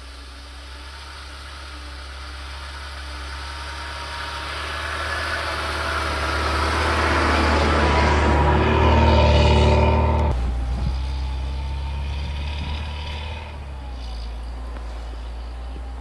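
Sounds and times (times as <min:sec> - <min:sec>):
car engine driving through snow: 0:00.0 - 0:16.0.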